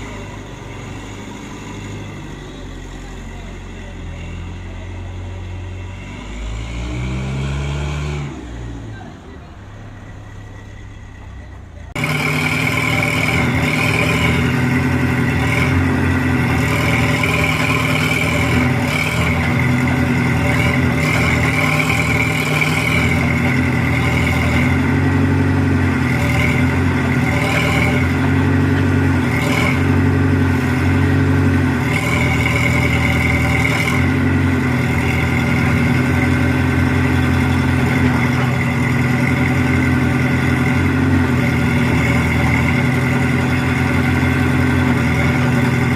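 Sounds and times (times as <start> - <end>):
heavy machine engine running: 0.0 - 45.9.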